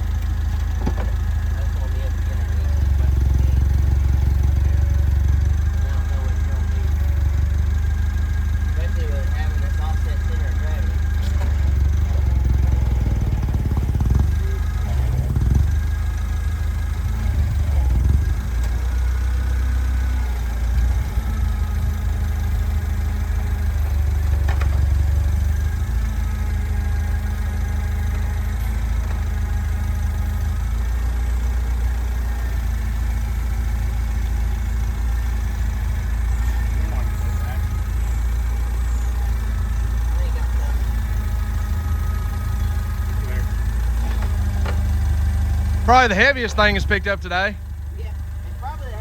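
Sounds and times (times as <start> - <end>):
engine running at low revs: 0.0 - 49.0.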